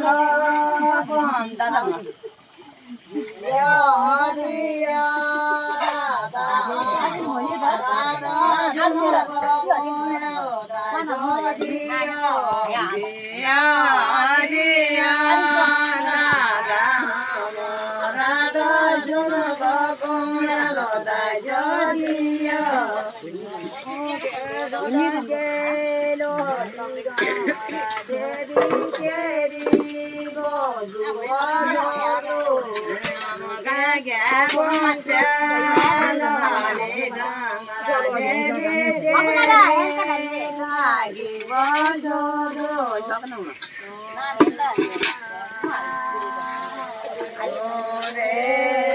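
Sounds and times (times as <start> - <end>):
people talking: 0.0 - 48.9
woman singing chant-like melody: 0.0 - 48.9.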